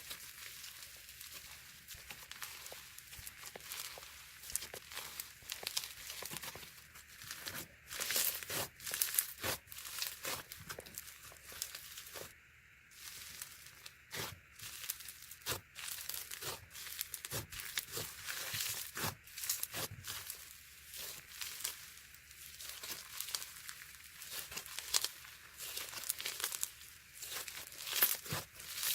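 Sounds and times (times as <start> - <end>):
slime crackling and popping: 0.0 - 12.4, 13.0 - 28.9.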